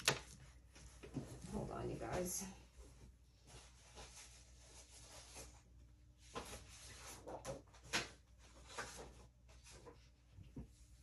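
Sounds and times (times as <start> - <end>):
paper rustling: 0.0 - 1.6, 3.4 - 10.8.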